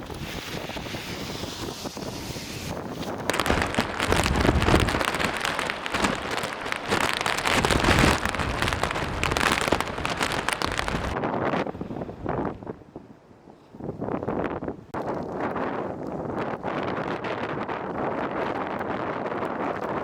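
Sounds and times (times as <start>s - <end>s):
strong wind buffeting microphone: 0.0s - 20.0s.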